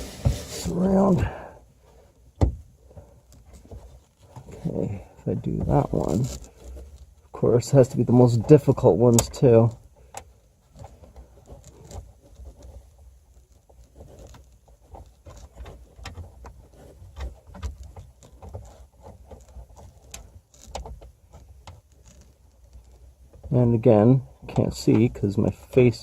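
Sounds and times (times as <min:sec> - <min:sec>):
light handling clicks and rustles: 0:00.0 - 0:26.0.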